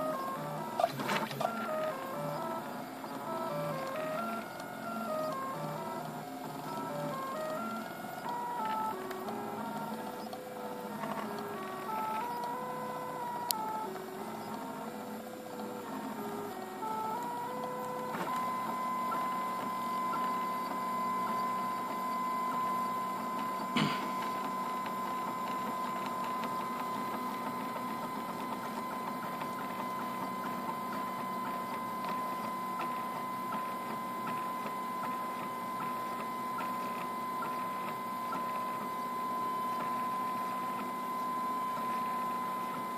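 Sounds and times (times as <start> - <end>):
stepper motors whining: 0.0 - 42.9.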